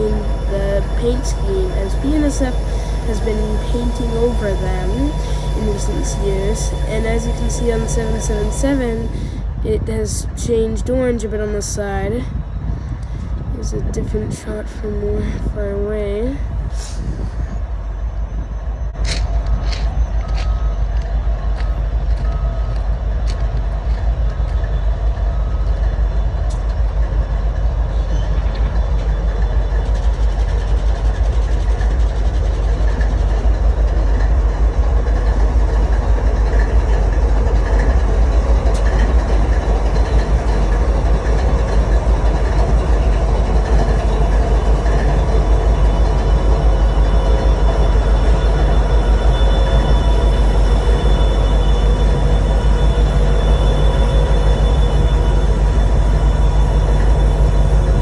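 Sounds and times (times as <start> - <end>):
faint steady tones: 0.0 - 23.8, 33.4 - 58.0
freight train rumbling past: 0.0 - 58.0.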